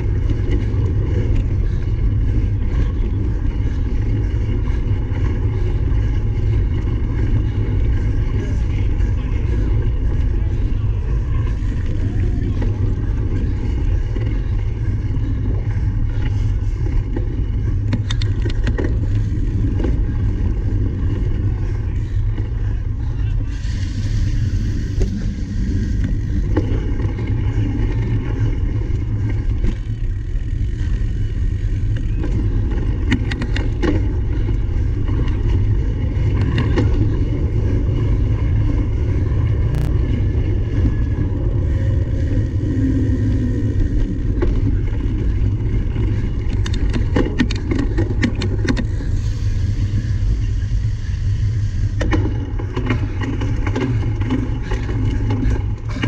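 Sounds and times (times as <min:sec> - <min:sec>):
bike clicks and rattles: 0:00.0 - 0:56.0
wind rushing over microphone: 0:00.0 - 0:56.0.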